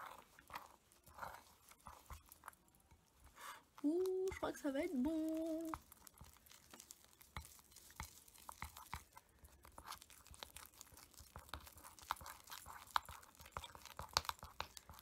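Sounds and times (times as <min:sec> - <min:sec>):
stirring paste in bowl: 0:00.0 - 0:15.0.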